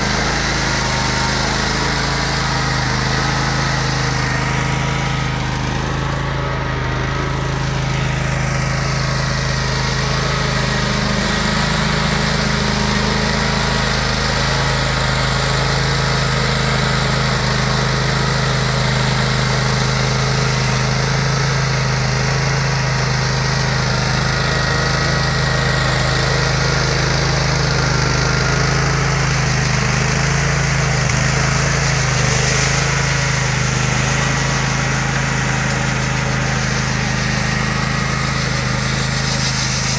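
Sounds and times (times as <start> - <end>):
ride-on mower engine running: 0.0 - 39.9
rotary brush sweeping snow: 0.0 - 39.9.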